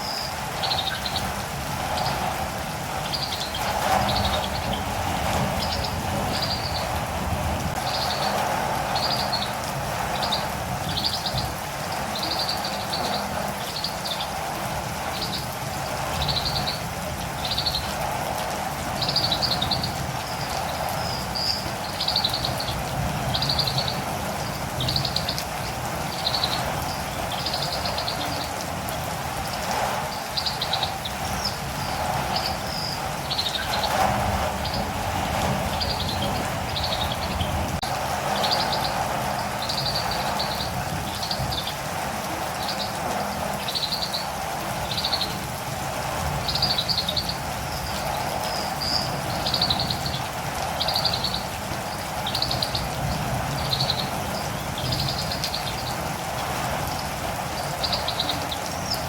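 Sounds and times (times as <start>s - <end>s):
bird trilled calls: 0.0s - 2.2s, 3.0s - 7.1s, 7.8s - 14.4s, 19.0s - 28.6s, 30.1s - 41.8s, 42.5s - 45.4s, 46.4s - 56.0s, 57.6s - 59.0s
rain hissing: 0.0s - 59.0s.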